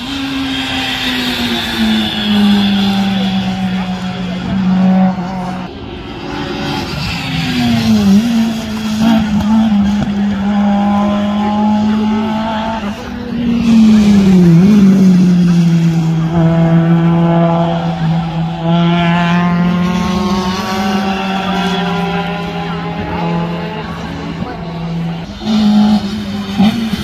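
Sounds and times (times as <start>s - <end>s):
rally cars passing at high revs: 0.0s - 27.0s.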